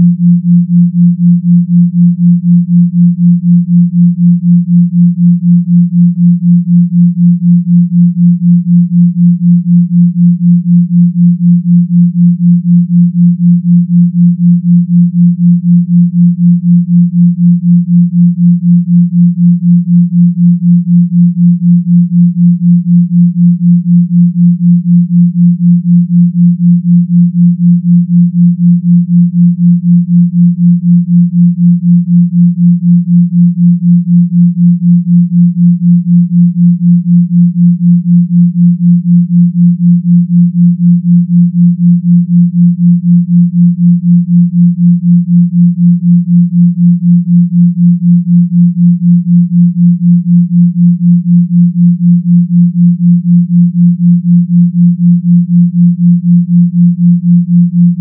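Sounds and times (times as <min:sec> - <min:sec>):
pulsing low sine tone hum: 0:00.0 - 0:58.0.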